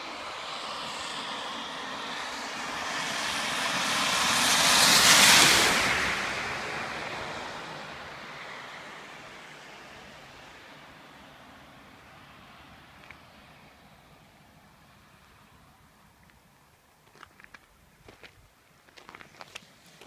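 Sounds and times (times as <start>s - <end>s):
car tyres on slushy road: 0.0s - 20.0s.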